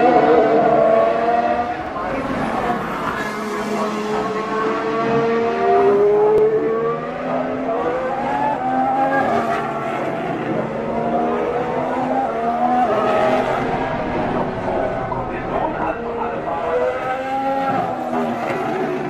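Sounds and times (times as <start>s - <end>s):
racing car engines: 0.0s - 19.0s.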